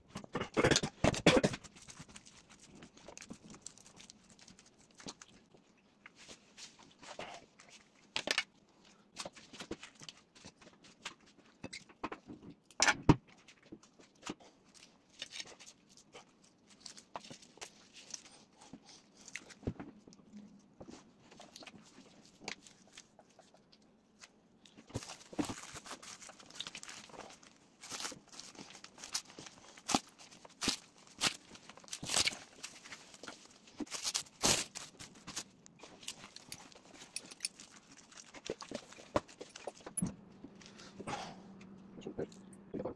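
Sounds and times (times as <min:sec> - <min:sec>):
plastic wrap rustling and crinkling: 0:01.4 - 0:11.6, 0:13.4 - 0:41.0.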